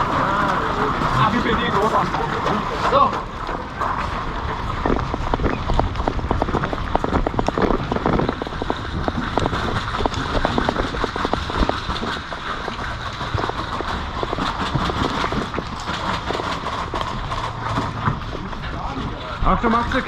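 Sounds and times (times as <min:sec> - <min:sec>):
clatter of carried gear: 0:00.0 - 0:20.0.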